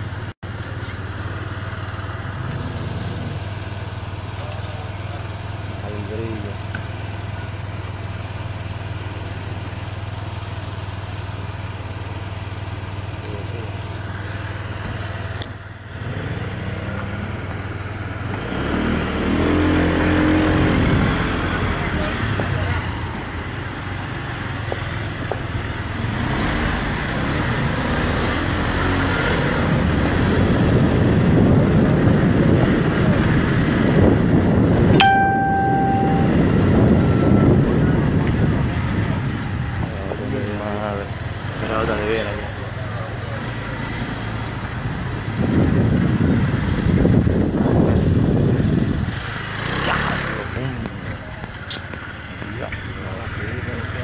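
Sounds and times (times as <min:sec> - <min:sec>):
street traffic engine and road noise: 0:00.0 - 0:54.0.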